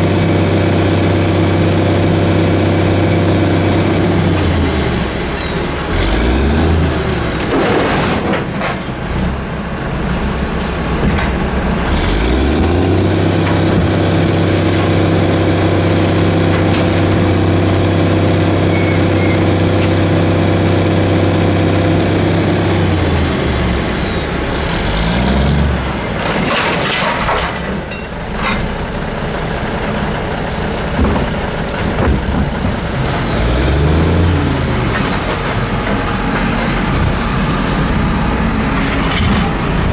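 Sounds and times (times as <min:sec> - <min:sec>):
garbage truck diesel engine revving: 0:00.0 - 0:27.7, 0:28.5 - 0:39.9.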